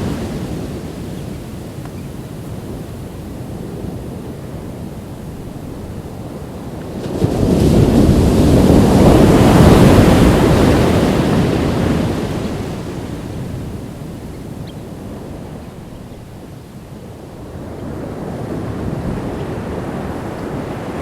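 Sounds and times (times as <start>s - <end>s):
ocean waves crashing: 0.0s - 21.0s
wind on microphone: 0.0s - 21.0s.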